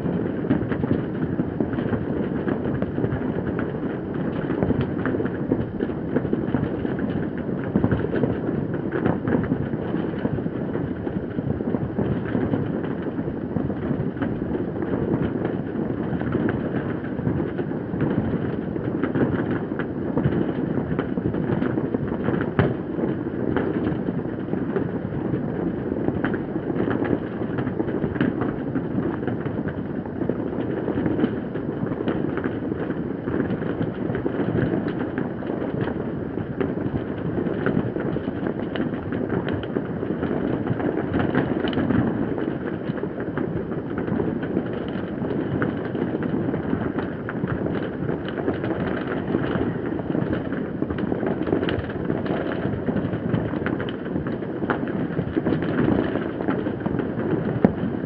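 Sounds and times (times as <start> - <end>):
distant fireworks rumble: 0.0 - 58.0
firework pops: 0.0 - 58.0.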